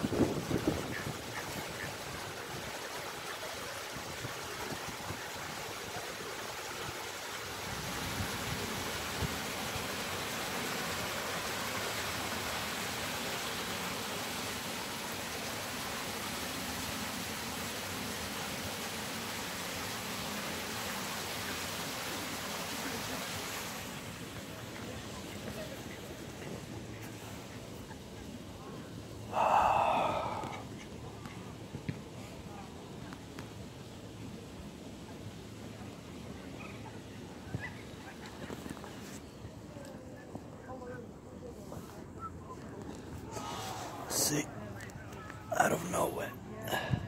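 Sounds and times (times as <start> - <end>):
rushing hiss of outdoor noise: 0.0 - 47.0.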